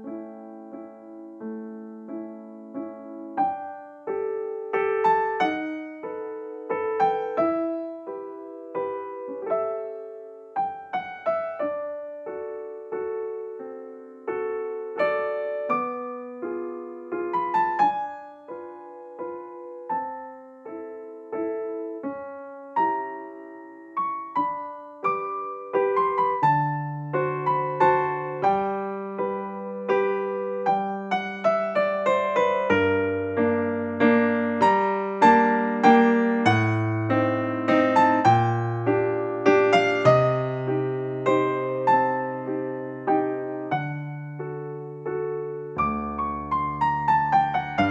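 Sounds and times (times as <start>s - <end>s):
gentle piano melody: 0.0s - 47.9s.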